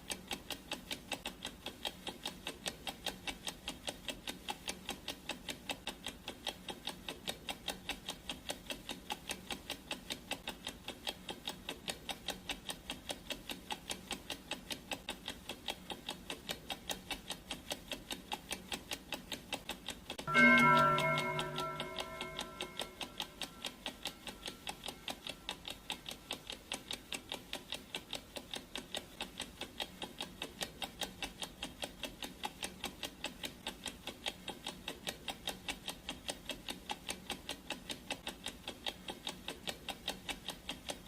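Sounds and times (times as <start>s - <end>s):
clock ticking: 0.0s - 41.0s.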